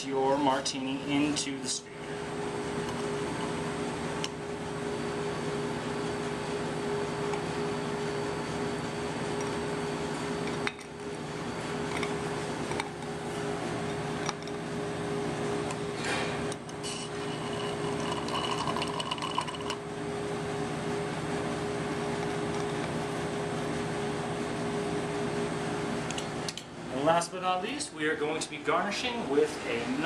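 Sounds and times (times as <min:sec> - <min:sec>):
mechanical hum and whir: 0:00.0 - 0:30.0.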